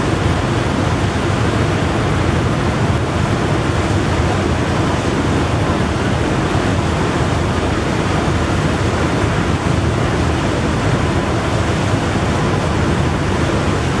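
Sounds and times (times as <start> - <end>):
choppy water: 0.0 - 14.0.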